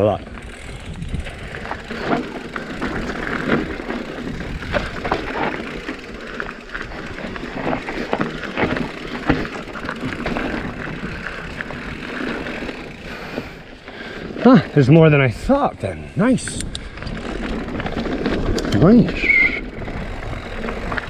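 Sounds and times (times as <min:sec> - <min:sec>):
bike rattling over rocks: 0:00.0 - 0:21.0
tyres crunching over stones: 0:00.4 - 0:14.9, 0:16.9 - 0:21.0.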